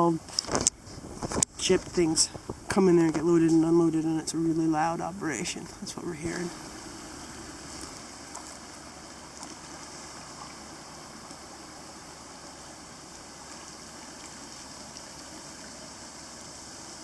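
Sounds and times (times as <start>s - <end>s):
creek water rushing: 0.0s - 17.0s
distant port machinery hum: 0.0s - 17.0s.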